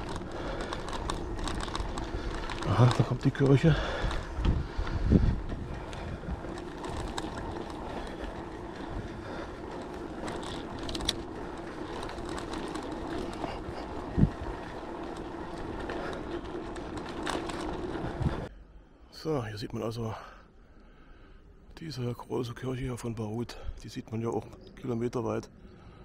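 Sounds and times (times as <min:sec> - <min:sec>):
bicycle tyres and drivetrain hum: 0:00.0 - 0:19.0, 0:22.6 - 0:26.0.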